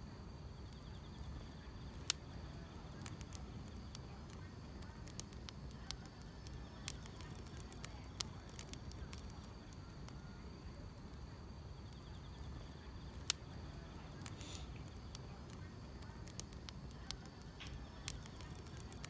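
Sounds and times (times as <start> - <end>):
insects chirping: 0.0 - 19.0
wood fire crackling: 0.0 - 19.0.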